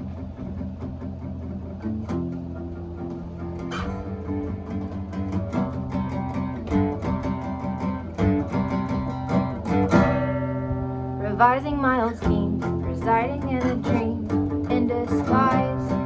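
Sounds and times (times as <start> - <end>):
band playing guitar and bass: 0.0 - 16.0.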